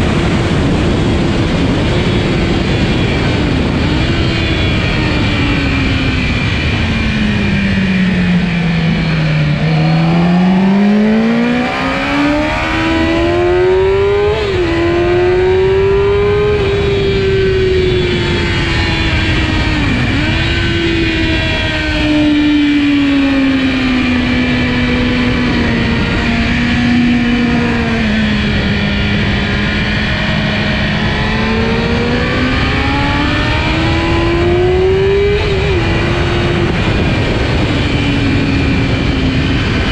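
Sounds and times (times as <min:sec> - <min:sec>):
motorcycle engine at racing revs: 0:00.0 - 0:39.9.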